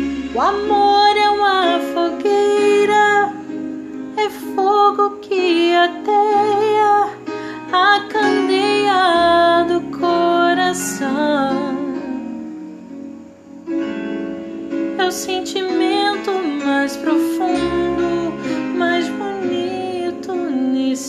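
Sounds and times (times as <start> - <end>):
woman singing: 0.0 - 12.4, 15.0 - 21.0
acoustic guitar: 0.0 - 21.0.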